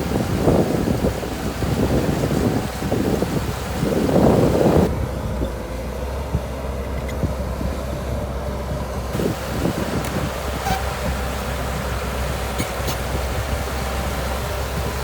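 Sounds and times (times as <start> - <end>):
bulldozer engine rumble: 0.0 - 15.0.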